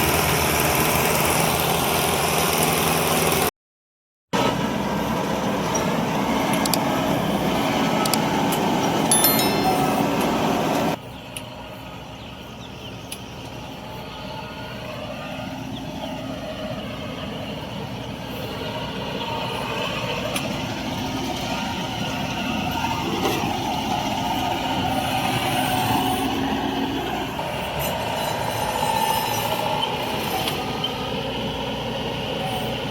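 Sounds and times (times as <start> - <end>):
combine harvester running: 0.0 - 3.5, 4.4 - 32.9.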